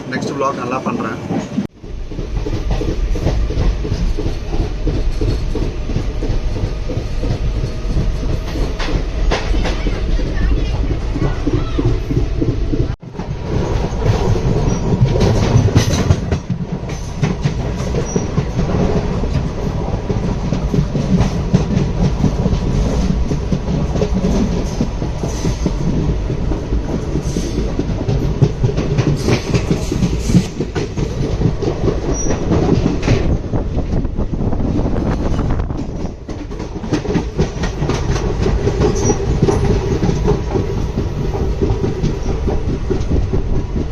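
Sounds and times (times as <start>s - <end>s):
train rumbling at speed: 0.0s - 43.9s
wheels clacking over rail joints: 0.0s - 43.9s.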